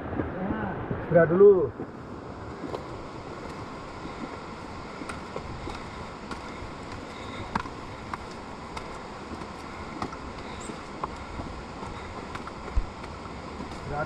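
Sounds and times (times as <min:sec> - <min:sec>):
steady rushing noise: 0:00.0 - 0:14.0
footsteps on concrete steps: 0:01.7 - 0:14.0.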